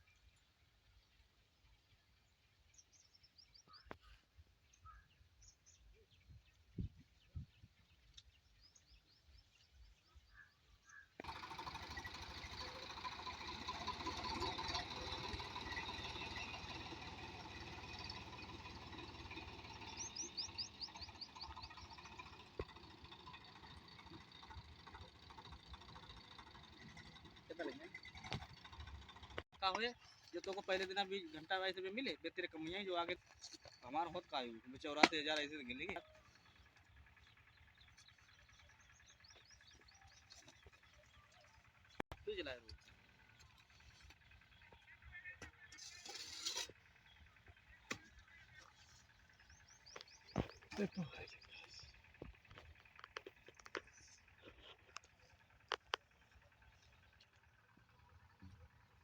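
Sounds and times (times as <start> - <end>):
small birds chirping: 0.0 - 59.0
diesel pump engine running: 11.2 - 59.0.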